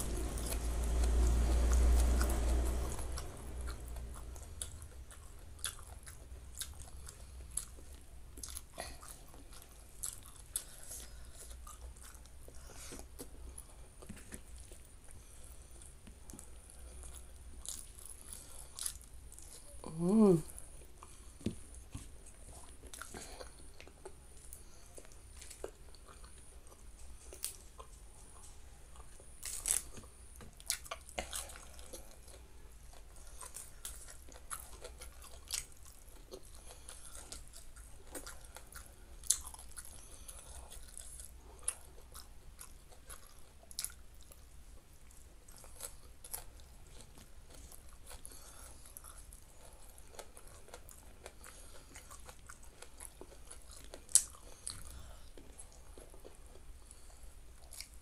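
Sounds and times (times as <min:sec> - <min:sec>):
person chewing and crunching food: 0:00.0 - 0:58.0.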